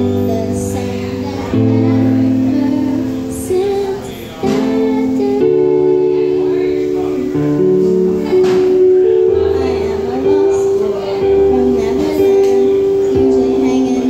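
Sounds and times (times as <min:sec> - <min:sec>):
acoustic guitar: 0:00.0 - 0:14.0
girl singing into a microphone: 0:00.0 - 0:14.0.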